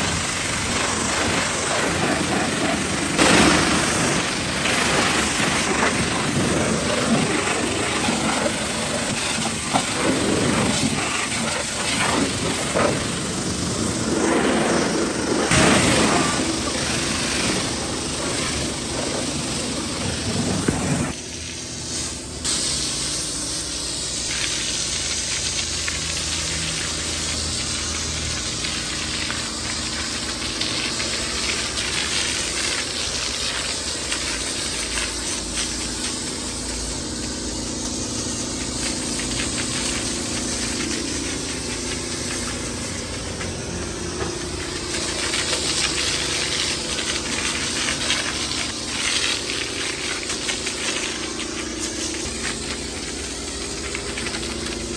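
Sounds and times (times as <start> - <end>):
pressure washer spraying: 0.0 - 54.9
pump motor running: 0.0 - 54.9.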